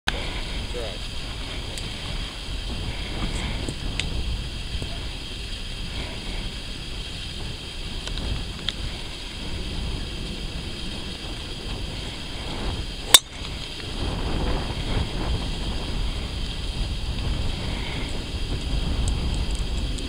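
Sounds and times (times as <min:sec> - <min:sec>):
low steady rumble: 0:00.1 - 0:20.0.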